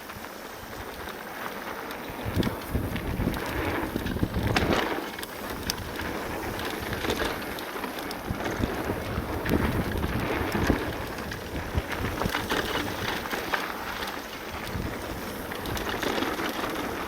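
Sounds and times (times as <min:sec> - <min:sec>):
bike clicks and rattles: 0:00.0 - 0:17.0
bike tyre noise: 0:00.0 - 0:17.0
wind buffeting microphone: 0:02.1 - 0:17.0.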